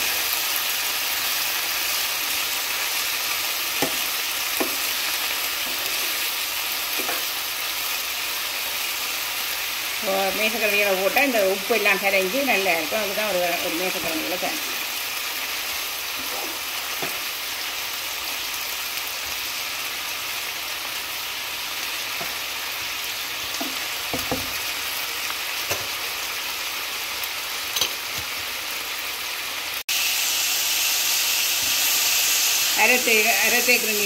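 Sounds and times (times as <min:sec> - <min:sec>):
vegetables sizzling in a pan: 0:00.0 - 0:34.0.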